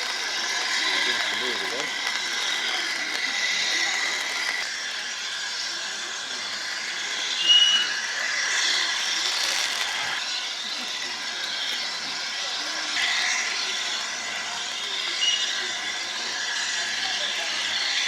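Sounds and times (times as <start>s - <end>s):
steam locomotive hissing steam: 0.0s - 18.0s.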